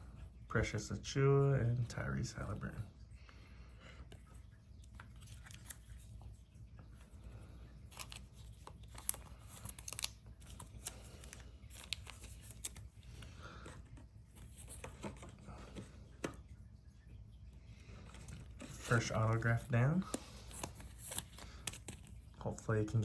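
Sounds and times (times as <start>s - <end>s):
trading cards and packaging handled: 4.0s - 23.0s.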